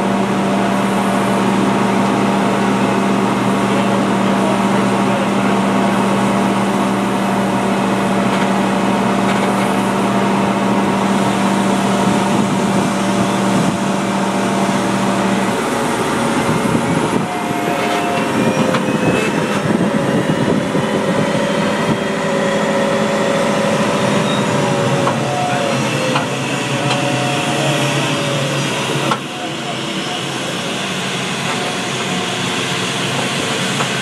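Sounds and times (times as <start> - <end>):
tug machine noise: 0.0 - 34.0.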